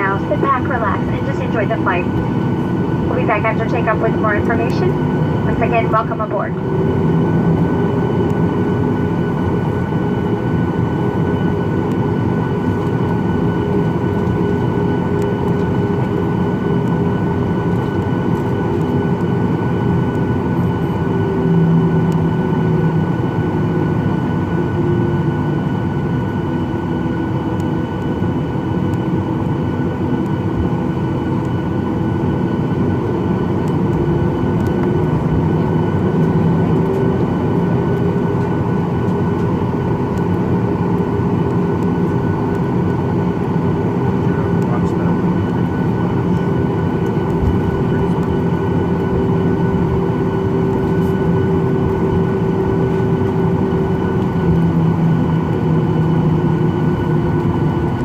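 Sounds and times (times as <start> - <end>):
jet engines droning in cabin: 0.0 - 58.0.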